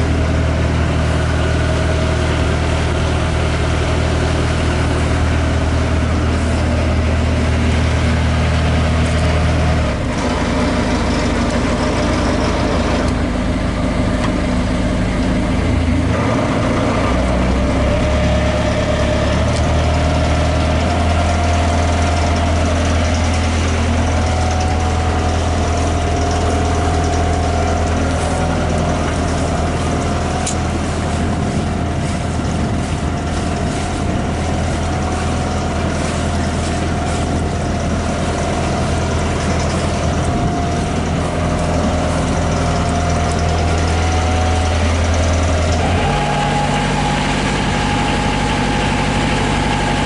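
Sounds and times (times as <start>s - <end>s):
diesel engine humming: 0.0s - 50.0s.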